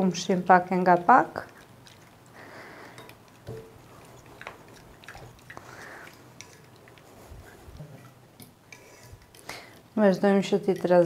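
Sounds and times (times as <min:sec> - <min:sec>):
fork stirring wet mixture: 0:00.0 - 0:11.0.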